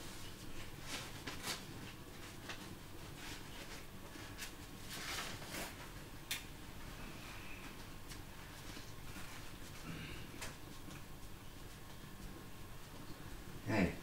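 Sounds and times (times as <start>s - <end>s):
cloth and paper rustling: 0.0s - 6.2s, 7.4s - 13.0s.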